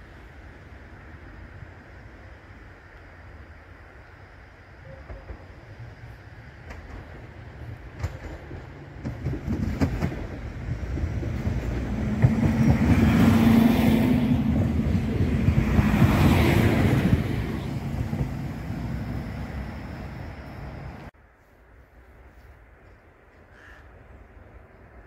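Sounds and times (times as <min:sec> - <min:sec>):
diesel train engine hum: 0:00.0 - 0:25.0
rail and wheel noise: 0:00.0 - 0:25.0.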